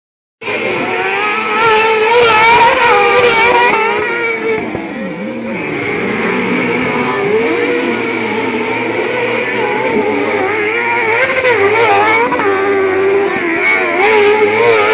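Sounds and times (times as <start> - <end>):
buggy engines revving: 0.4 - 14.9.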